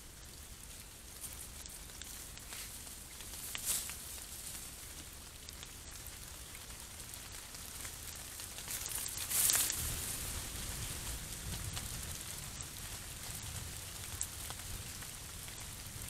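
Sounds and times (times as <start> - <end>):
animals rustling through dry grass: 0.0 - 14.7
faint steady hiss: 0.0 - 16.0.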